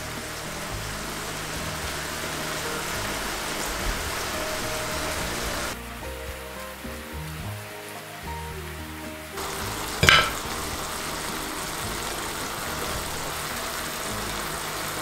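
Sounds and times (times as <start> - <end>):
food sizzling in a pan: 0.0 - 8.2, 9.2 - 15.0
background music: 0.0 - 15.0.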